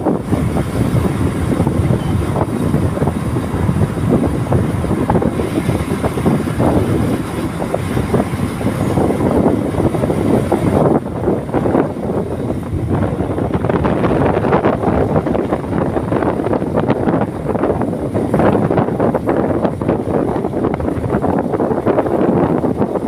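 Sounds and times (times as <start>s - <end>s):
motorbike riding noise: 0.0s - 23.0s
wind buffeting microphone: 0.0s - 23.0s.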